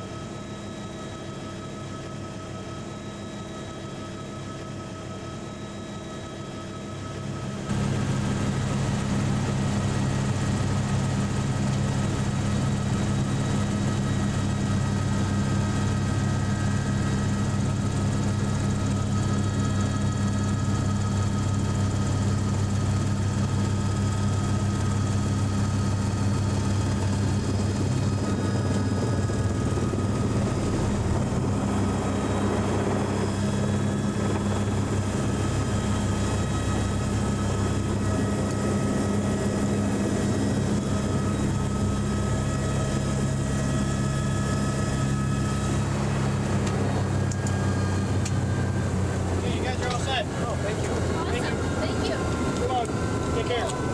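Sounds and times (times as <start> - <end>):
helicopter rotor beat: 0.0 - 53.9
helicopter turbine whine: 0.0 - 53.9.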